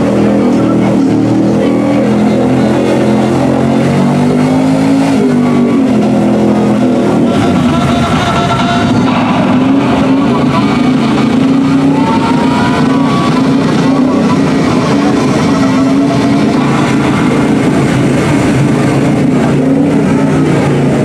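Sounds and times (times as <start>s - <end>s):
engine running under load: 0.0s - 21.0s
tires churning through mud: 0.0s - 21.0s.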